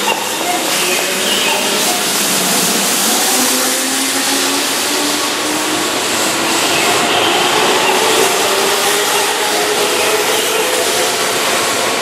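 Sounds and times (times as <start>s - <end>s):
wheel and rail noise: 0.0s - 12.0s.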